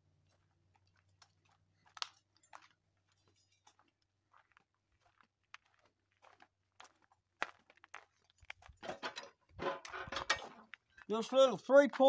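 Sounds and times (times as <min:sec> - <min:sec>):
footsteps crunching on gravel: 0:00.2 - 0:12.0.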